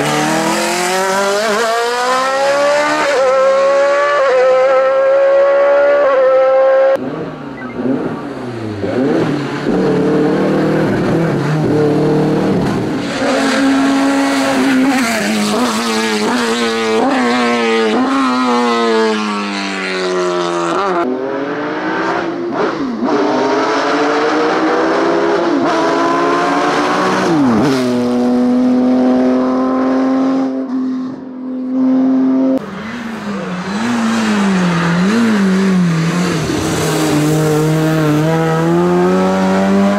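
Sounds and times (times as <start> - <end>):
racing car engines revving: 0.0 - 39.9.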